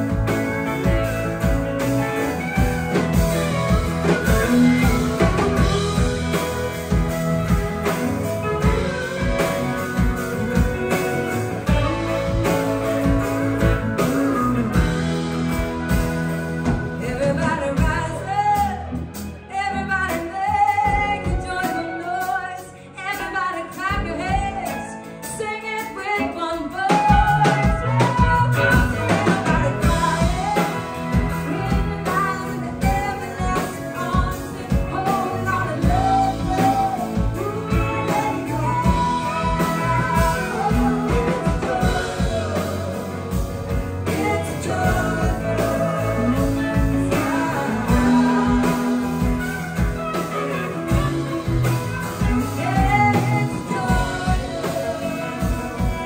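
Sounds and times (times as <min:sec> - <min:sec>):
live band playing: 0:00.0 - 0:56.0
woman singing: 0:00.1 - 0:56.0.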